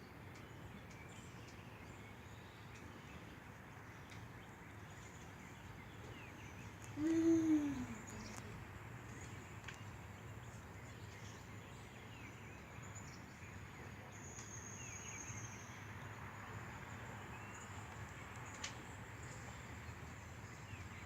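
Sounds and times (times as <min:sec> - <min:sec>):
faint outdoor ambience: 0:00.0 - 0:21.0
soft bird chirps: 0:00.3 - 0:21.0.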